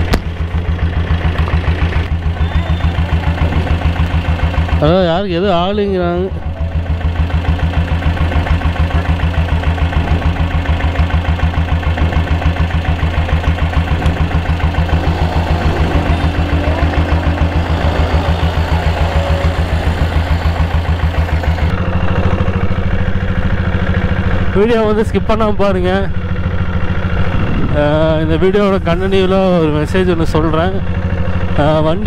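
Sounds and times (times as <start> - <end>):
motorcycle engine chugging: 0.0 - 32.0.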